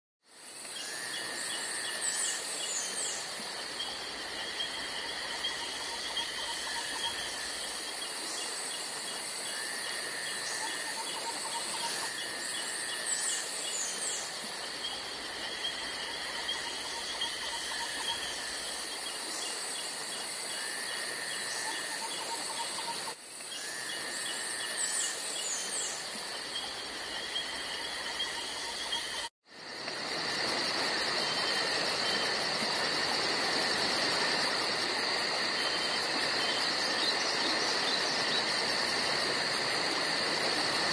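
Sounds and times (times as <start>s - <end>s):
insect chorus trilling: 0.3s - 40.9s.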